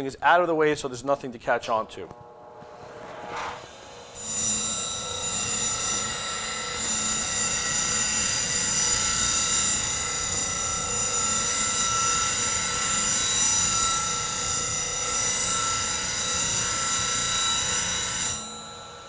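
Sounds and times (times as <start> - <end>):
bench grinder grinding metal: 2.2 - 19.0.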